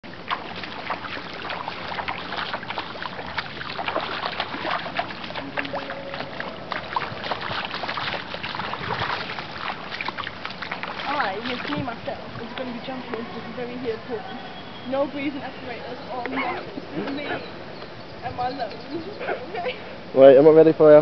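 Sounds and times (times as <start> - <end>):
pool water splashing around feet: 0.0 - 21.0.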